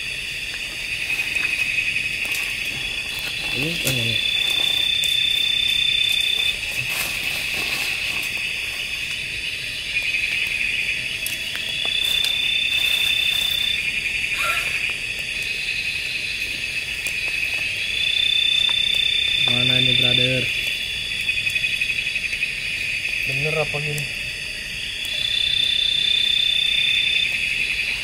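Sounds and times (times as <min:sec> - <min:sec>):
night insects chirring: 0:00.0 - 0:28.0.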